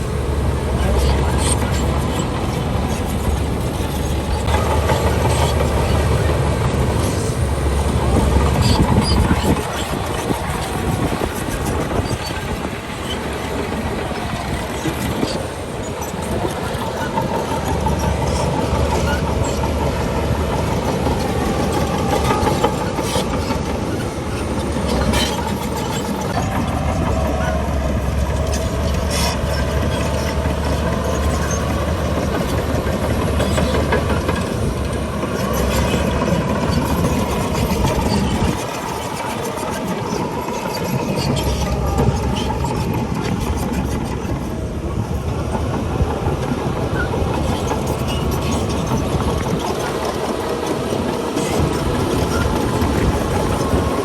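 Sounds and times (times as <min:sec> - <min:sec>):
bulldozer diesel engine droning: 0:00.0 - 0:54.0
steel tracks squealing and clanking: 0:00.0 - 0:54.0.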